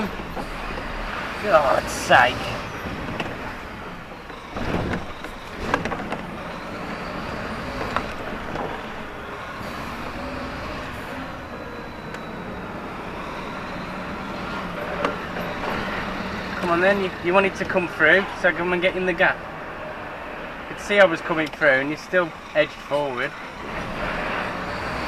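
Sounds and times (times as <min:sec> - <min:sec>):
lorry diesel engine running: 0:00.0 - 0:25.0.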